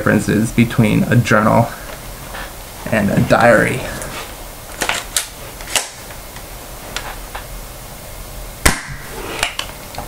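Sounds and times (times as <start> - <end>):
steady low hiss: 0.0 - 10.0.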